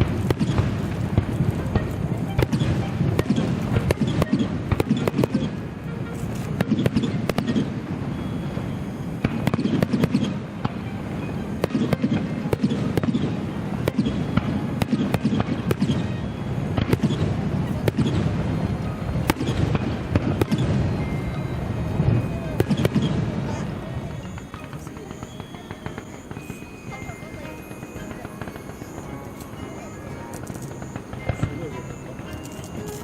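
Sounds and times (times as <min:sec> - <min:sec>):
fireworks bangs and crackles: 0:00.0 - 0:33.0
low rumble of echoing explosions: 0:00.0 - 0:33.0.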